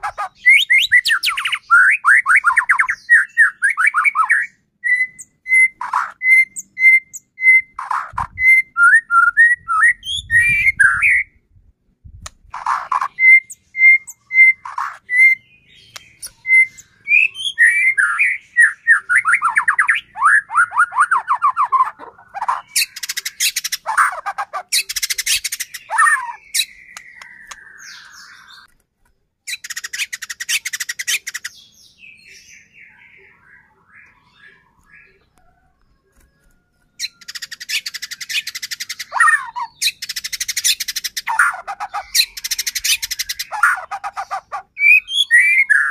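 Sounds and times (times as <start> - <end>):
bird singing varied song: 0.0 - 45.9.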